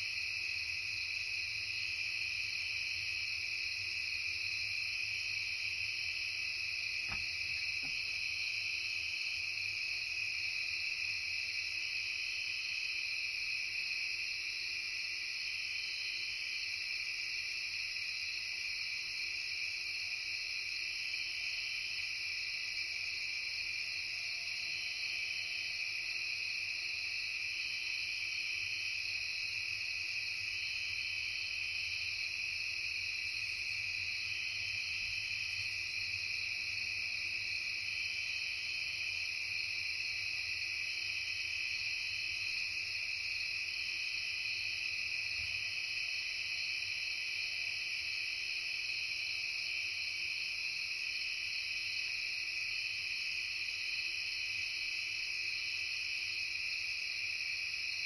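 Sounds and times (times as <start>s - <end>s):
crickets and insects trilling: 0.0s - 58.0s.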